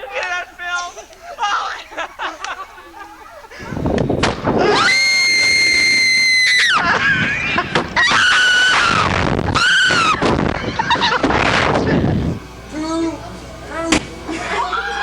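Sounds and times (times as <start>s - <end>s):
person laughing with high shrieks: 0.0s - 12.3s, 14.3s - 15.0s.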